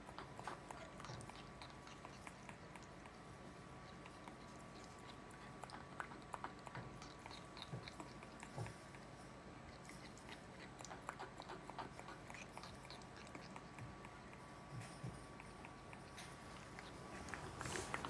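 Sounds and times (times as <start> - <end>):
steady background hum: 0.0 - 18.0
parrot beak clicks and crunches: 0.1 - 18.0.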